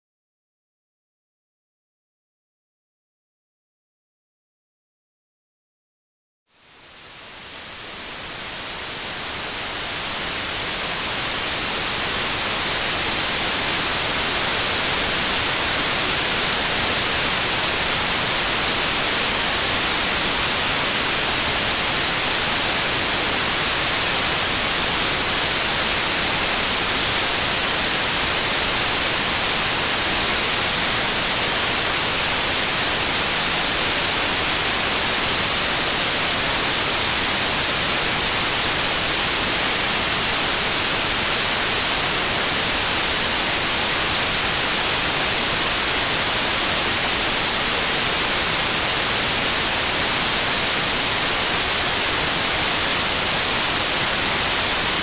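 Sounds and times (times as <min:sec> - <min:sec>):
white noise hiss: 0:06.5 - 0:55.0.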